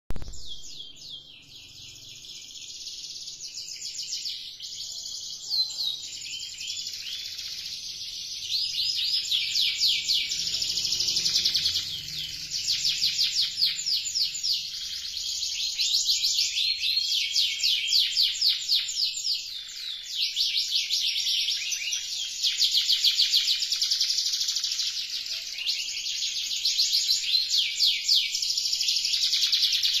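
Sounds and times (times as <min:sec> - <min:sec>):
canary singing trills: 0:00.1 - 0:30.0.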